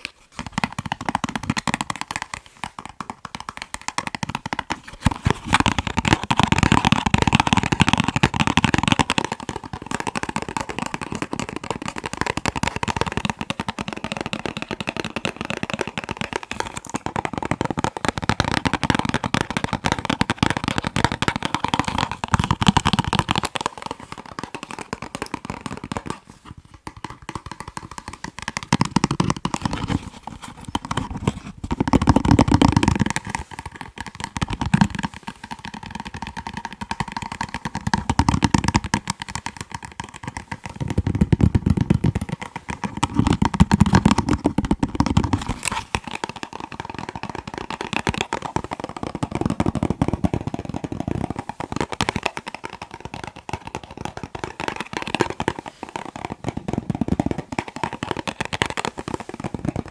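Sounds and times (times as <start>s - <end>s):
fast tapping on boxes: 0.0s - 59.9s.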